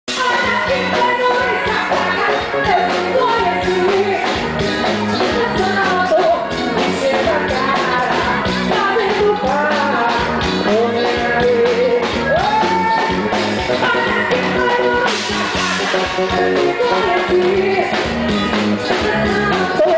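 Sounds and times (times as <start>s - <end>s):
band playing dance music: 0.0s - 19.9s.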